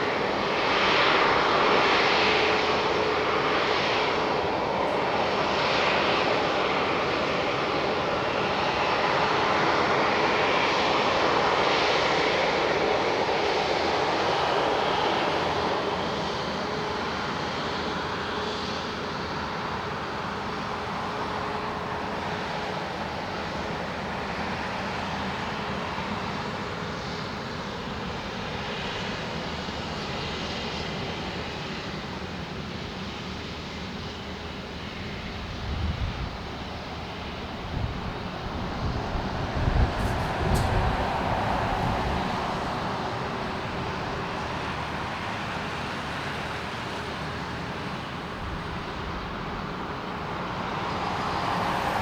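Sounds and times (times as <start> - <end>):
faint jet engine whine: 0.0 - 52.0
jet engines rumbling: 0.0 - 52.0.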